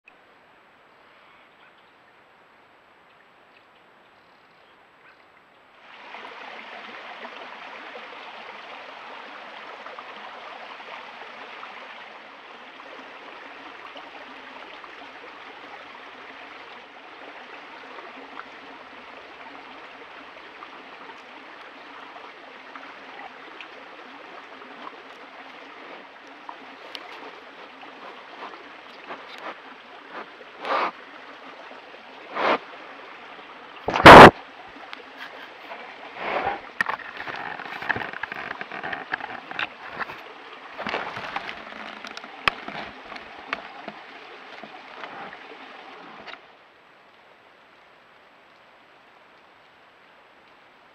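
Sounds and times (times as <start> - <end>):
creek flowing: 0.0 - 50.9.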